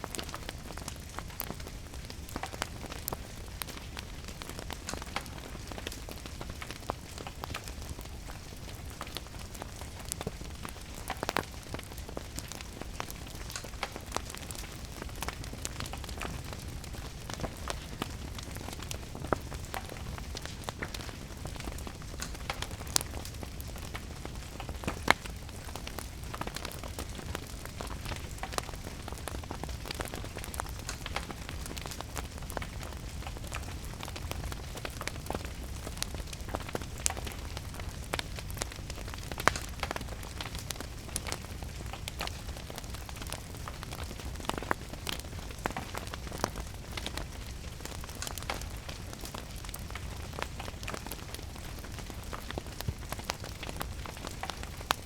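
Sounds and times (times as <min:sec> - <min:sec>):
steady rain: 0:00.0 - 0:55.0
wood fire crackling and popping: 0:00.0 - 0:55.0.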